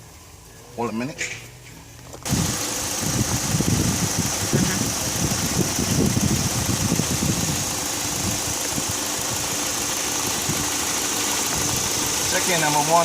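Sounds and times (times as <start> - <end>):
car engine idling: 2.0 - 13.0.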